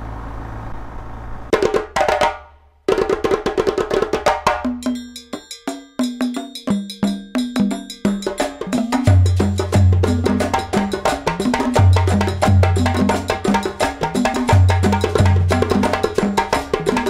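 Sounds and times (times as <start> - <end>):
wood block percussion: 1.5 - 17.0.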